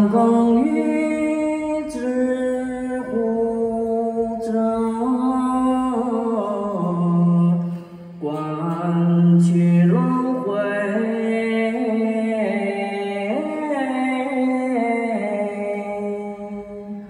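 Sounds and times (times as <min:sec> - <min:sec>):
slow droning chant-like melody: 0:00.0 - 0:17.0.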